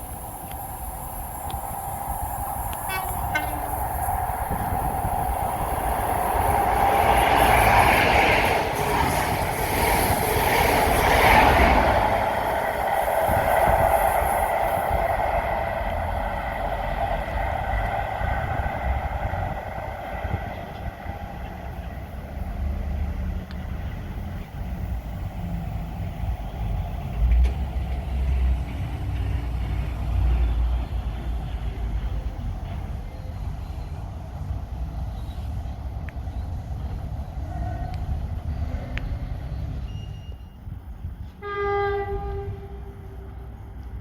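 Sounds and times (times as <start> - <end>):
train passing on rails: 0.0 - 44.0.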